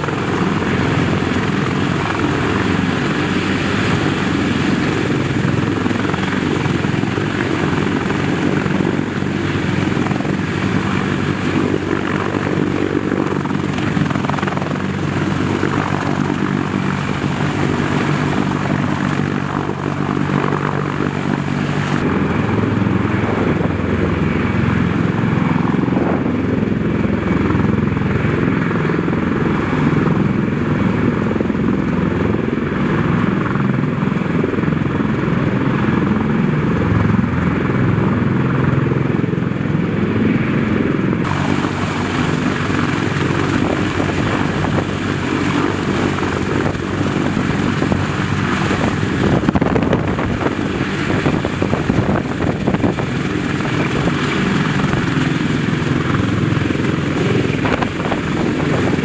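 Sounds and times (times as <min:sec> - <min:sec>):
helicopter hovering: 0:00.0 - 0:59.0.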